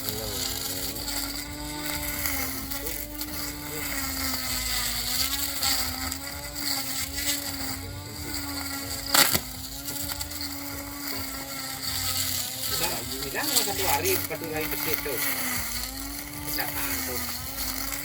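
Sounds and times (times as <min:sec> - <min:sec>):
electric grass cutter hum: 0:00.0 - 0:18.0.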